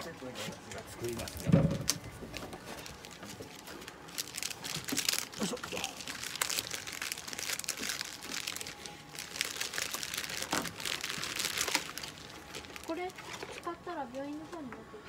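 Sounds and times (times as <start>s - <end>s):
plastic and cardboard rustling: 1.0s - 14.7s.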